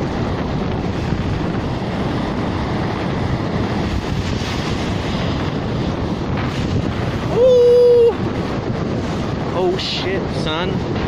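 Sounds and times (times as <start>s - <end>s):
ocean surf washing ashore: 0.0s - 11.0s
wind buffeting microphone: 0.0s - 11.0s.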